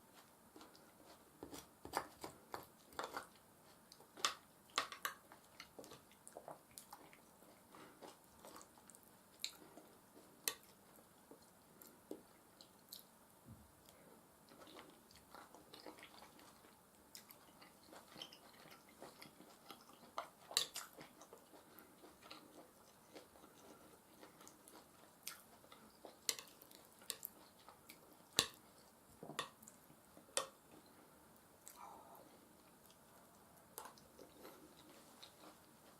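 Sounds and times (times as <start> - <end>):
wet chewing mouth sounds: 0.0 - 13.1, 13.8 - 31.0.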